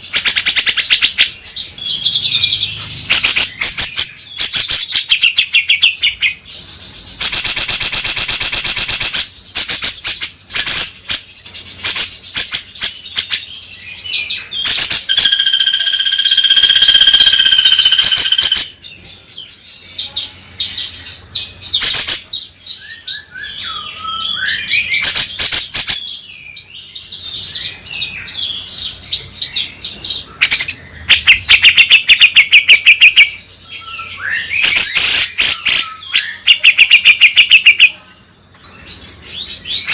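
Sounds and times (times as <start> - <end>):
bird chattering and whistling: 0.0 - 18.9, 20.0 - 39.9.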